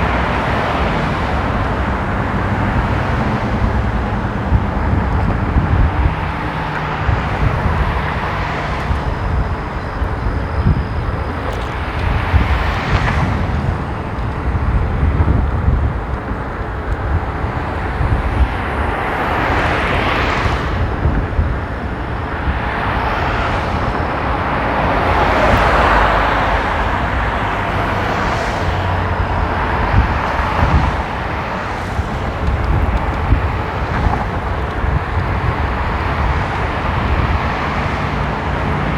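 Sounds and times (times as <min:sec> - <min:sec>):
wind and road noise rumble: 0:00.0 - 0:38.9.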